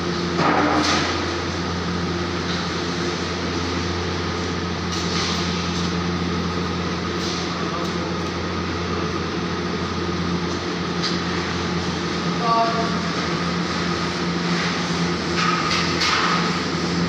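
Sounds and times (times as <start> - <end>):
mechanical drone with low hum: 0.0 - 17.0.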